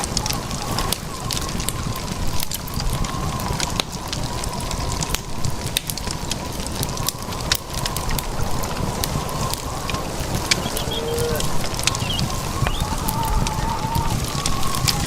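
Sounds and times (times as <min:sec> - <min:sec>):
sharp crackling clicks: 0:00.0 - 0:15.0
wind buffeting microphone: 0:00.0 - 0:15.0.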